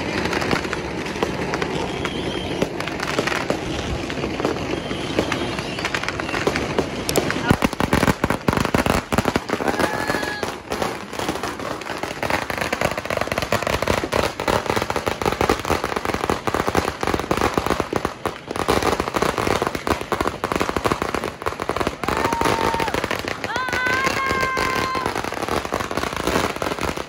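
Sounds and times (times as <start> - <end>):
firecrackers crackling: 0.0 - 27.0.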